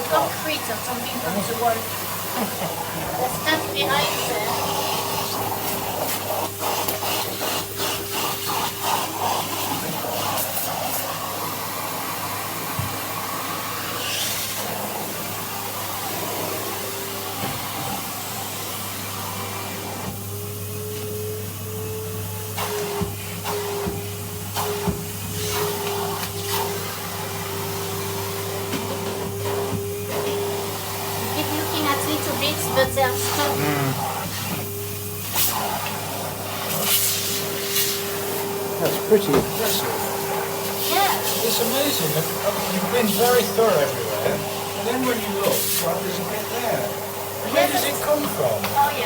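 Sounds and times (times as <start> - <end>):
vacuum cleaner motor hum: 0.0 - 49.0.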